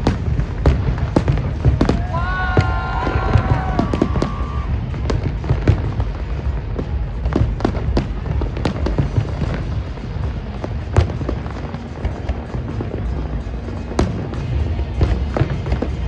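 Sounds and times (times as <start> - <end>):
firework bangs and crackles: 0.0 - 16.0
low rumble of fireworks: 0.0 - 16.0.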